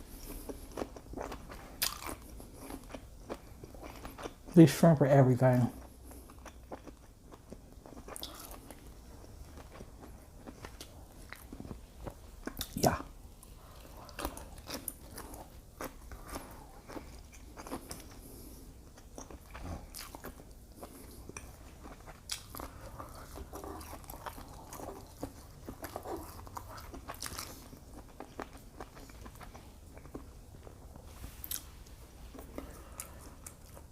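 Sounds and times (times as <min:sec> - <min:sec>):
person chewing food: 0:00.0 - 0:04.6, 0:05.7 - 0:33.9.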